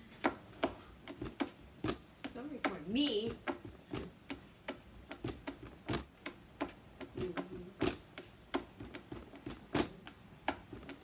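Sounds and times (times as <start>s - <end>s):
hand drumming: 0.6s - 11.0s.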